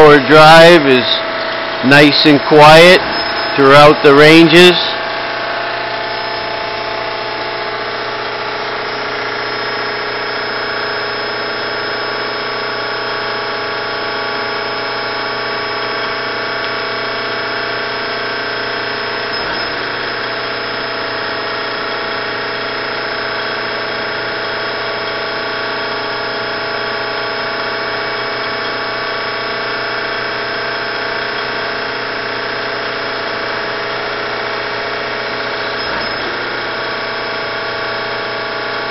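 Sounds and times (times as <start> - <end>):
milling machine humming and whining: 0.0 - 38.9.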